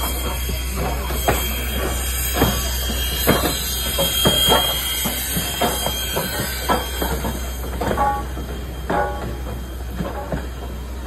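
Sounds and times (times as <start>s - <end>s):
low locomotive rumble: 0.0s - 11.0s
metallic clanks of train wheels: 0.0s - 11.0s.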